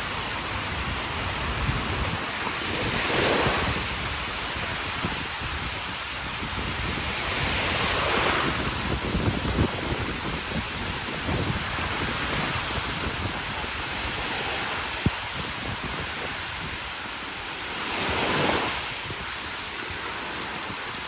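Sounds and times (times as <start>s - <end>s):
wind and rain: 0.0s - 21.0s
wind buffeting microphone: 0.0s - 21.0s.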